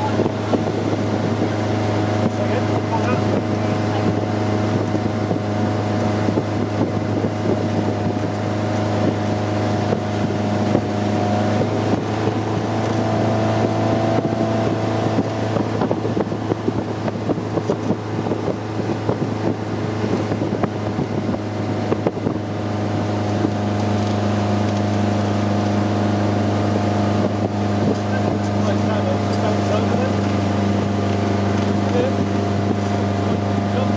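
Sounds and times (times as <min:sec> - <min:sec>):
boat engine running: 0:00.0 - 0:33.9
rush of boat wake: 0:00.0 - 0:33.9
wind buffeting microphone: 0:00.0 - 0:33.9.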